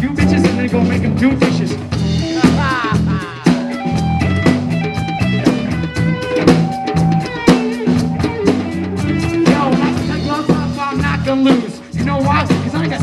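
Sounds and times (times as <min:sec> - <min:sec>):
bass guitar: 0:00.0 - 0:13.0
drum kit snare and bass drum: 0:00.0 - 0:13.0
guitar: 0:00.0 - 0:13.0.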